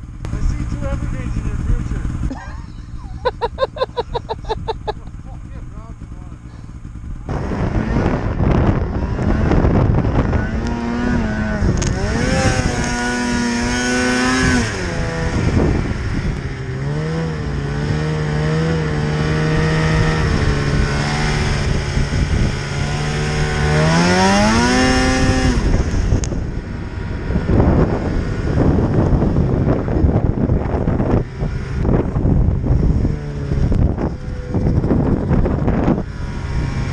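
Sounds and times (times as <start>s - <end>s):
snowmobile engine revving: 0.0s - 36.9s.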